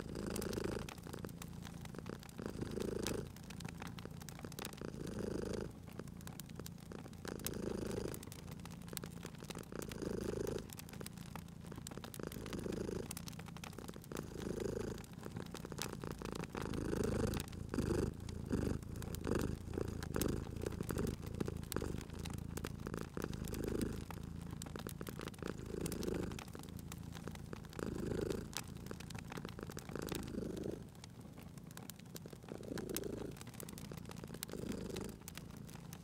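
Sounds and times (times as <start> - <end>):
cat purring: 0.0 - 36.0
wood fire crackling and popping: 0.0 - 36.0.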